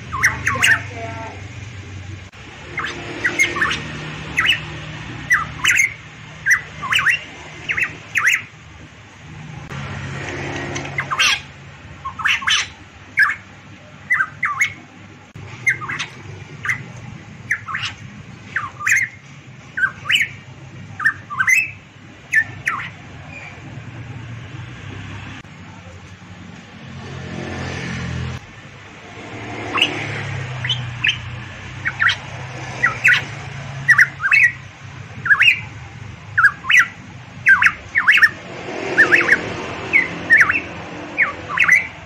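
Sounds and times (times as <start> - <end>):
bird calling sharp notes: 0.0 - 1.6, 2.4 - 8.6, 10.5 - 23.8, 29.2 - 42.0.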